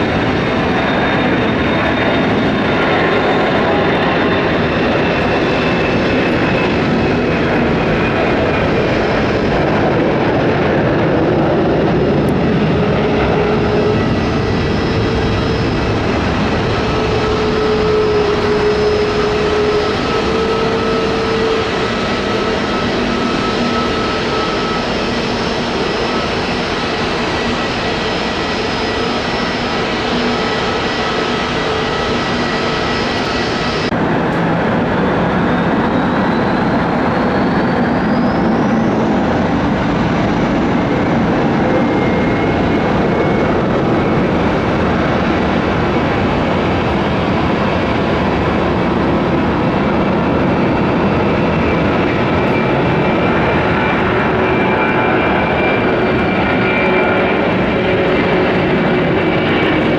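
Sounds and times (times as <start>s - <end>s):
jet engines taking off: 0.0s - 59.9s
turbofan whine spooling up: 0.1s - 59.9s.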